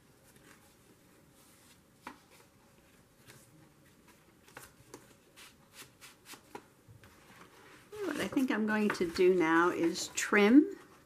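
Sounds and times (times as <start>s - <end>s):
paper rustling and tapping: 1.6s - 11.0s.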